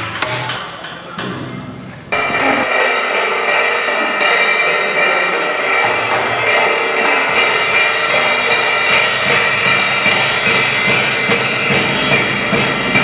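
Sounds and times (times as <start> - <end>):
children's percussion group: 0.0 - 13.0
cymbals ringing: 0.0 - 13.0.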